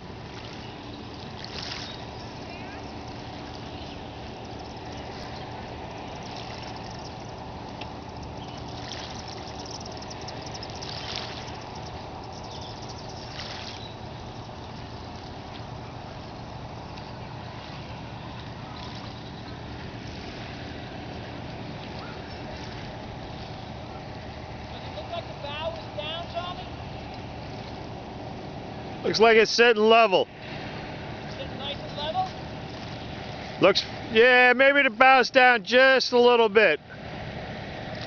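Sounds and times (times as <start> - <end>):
oars splashing in water: 0.0 - 29.0, 31.0 - 34.1
steady low hum: 0.0 - 38.0.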